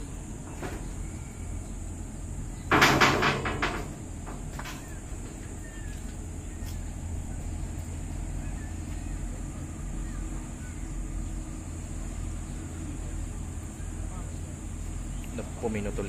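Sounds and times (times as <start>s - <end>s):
ship diesel engines droning: 0.0s - 16.0s.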